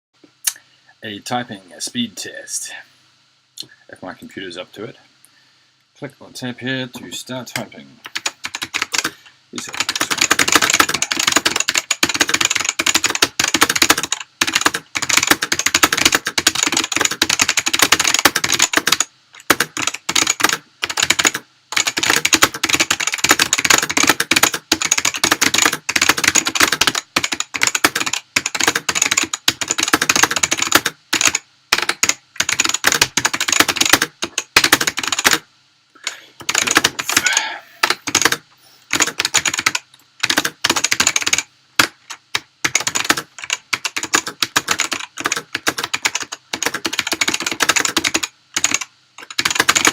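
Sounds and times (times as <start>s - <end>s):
fast typing on clicky keyboard: 8.1s - 35.4s, 36.4s - 37.2s, 37.8s - 49.9s.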